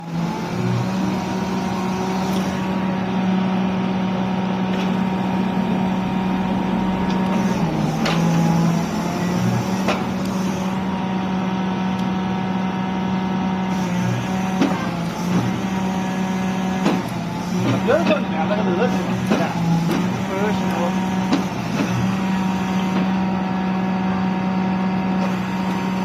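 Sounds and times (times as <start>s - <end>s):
excavator running: 0.0s - 26.0s.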